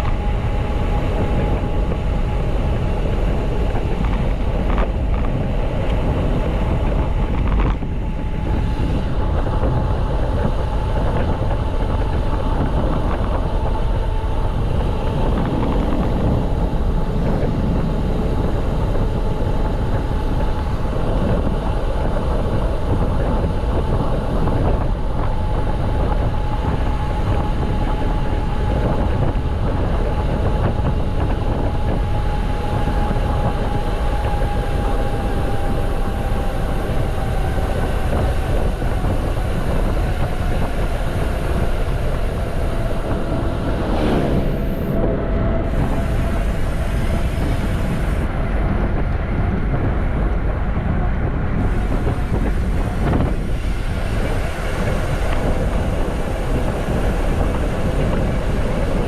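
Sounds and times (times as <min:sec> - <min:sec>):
steady high hum: 0:00.0 - 0:59.0
wind rushing over microphone: 0:00.0 - 0:59.0.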